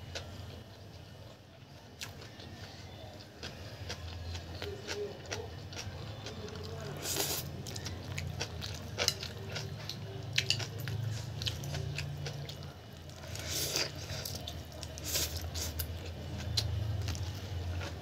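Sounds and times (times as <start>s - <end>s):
person chewing noodles: 2.0s - 18.0s.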